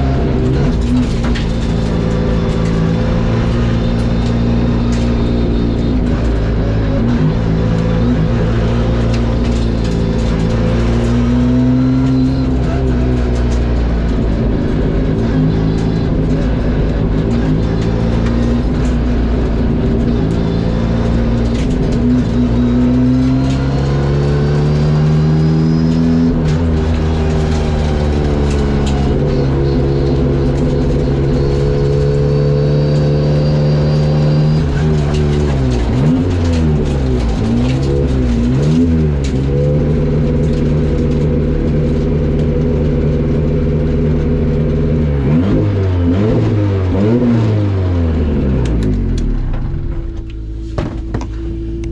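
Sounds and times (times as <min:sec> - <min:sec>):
car engine revving hard: 0:00.0 - 0:49.4.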